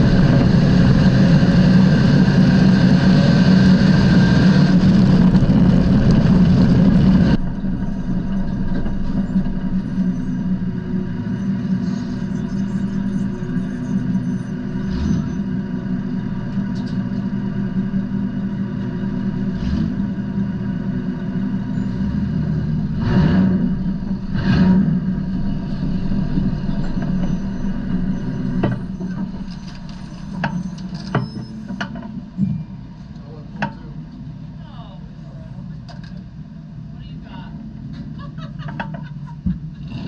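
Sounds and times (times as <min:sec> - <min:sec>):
vehicle engine droning: 0:00.0 - 0:40.0.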